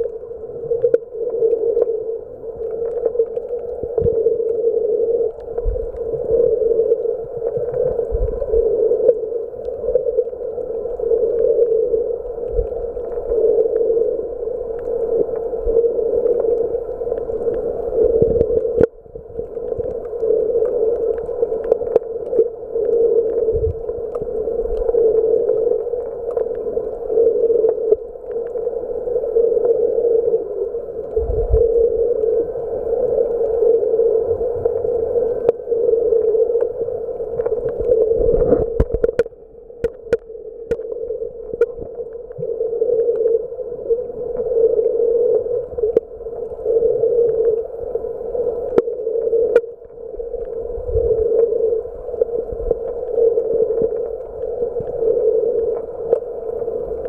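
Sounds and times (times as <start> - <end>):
muffled underwater hum: 0.0 - 57.0.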